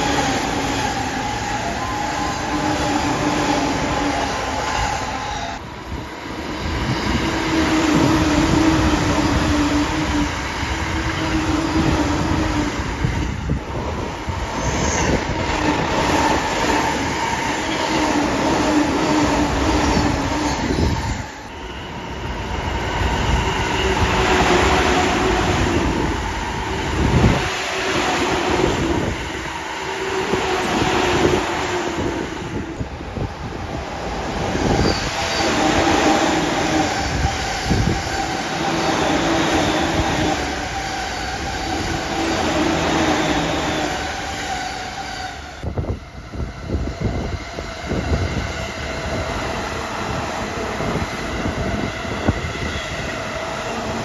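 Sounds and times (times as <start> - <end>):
electric trains passing: 0.0 - 54.0.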